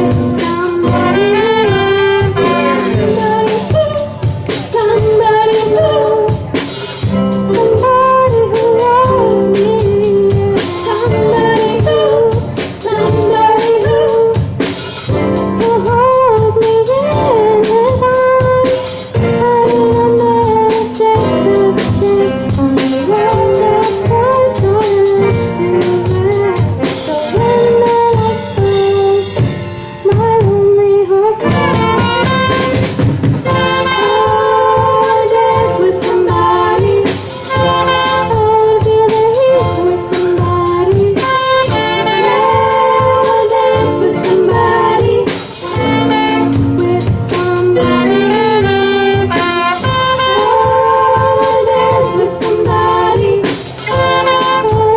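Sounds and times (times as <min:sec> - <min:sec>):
drum kit: 0:00.0 - 0:54.9
girl singing lead: 0:00.0 - 0:54.9
live band playing: 0:00.0 - 0:54.9
saxophone: 0:00.0 - 0:54.9.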